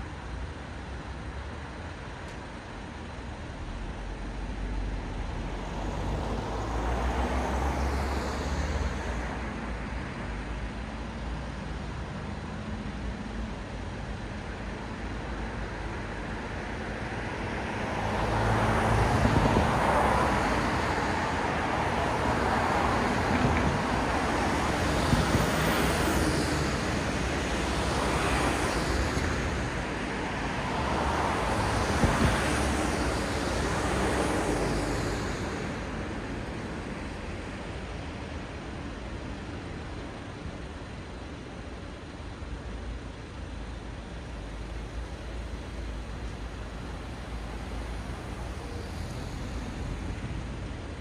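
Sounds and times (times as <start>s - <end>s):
vehicles passing: 3.0s - 51.0s.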